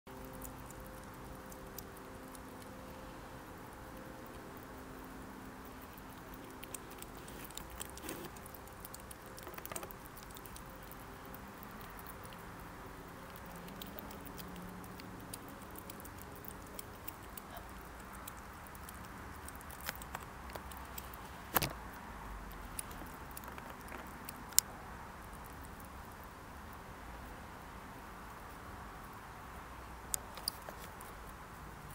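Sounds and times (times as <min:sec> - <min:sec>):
hedgehog chewing clicks: 0:00.1 - 0:26.8, 0:30.0 - 0:31.9.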